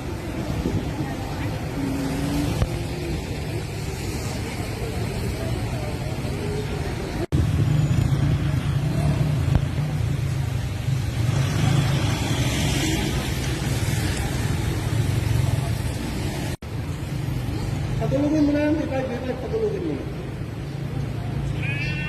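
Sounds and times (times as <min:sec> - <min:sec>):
motor vehicle running: 0:00.0 - 0:18.2.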